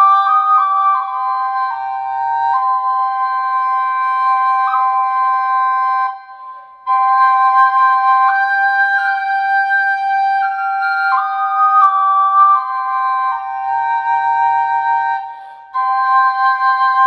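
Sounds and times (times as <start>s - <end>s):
double flute melody over drone: 0.0s - 17.0s.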